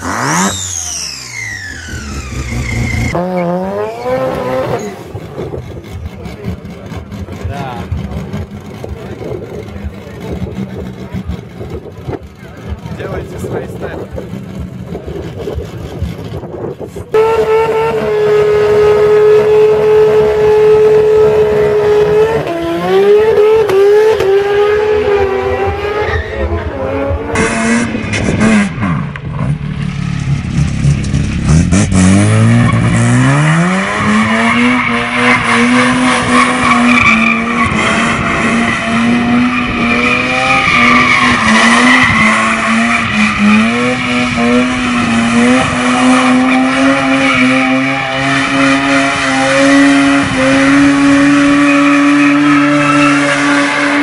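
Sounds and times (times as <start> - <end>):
drag car engine revving: 0.0 - 54.0
rotary engine revving: 0.0 - 54.0.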